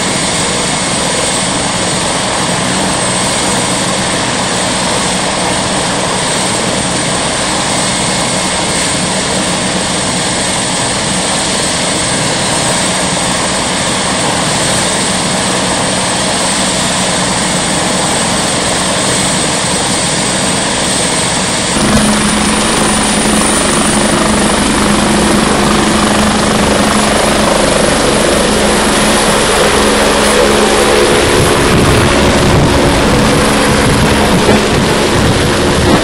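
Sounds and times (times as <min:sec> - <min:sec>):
helicopter turbine and rotor: 0:00.0 - 0:36.0.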